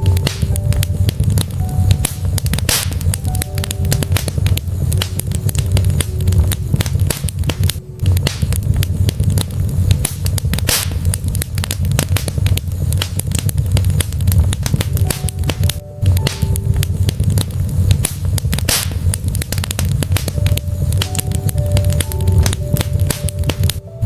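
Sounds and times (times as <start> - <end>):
low rumble of fire: 0.0 - 24.0
wood fire crackling and popping: 0.0 - 24.0.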